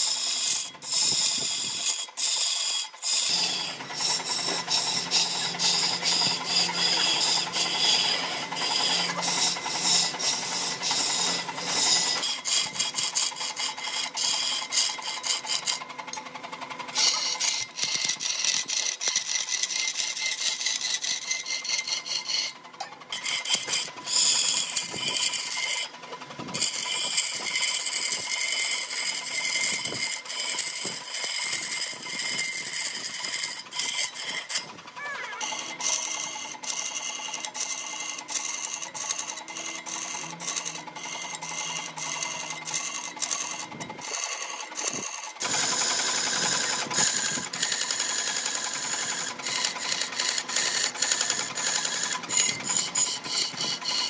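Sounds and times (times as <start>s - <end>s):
rasping strokes on wood: 0.0s - 16.2s, 16.8s - 54.0s.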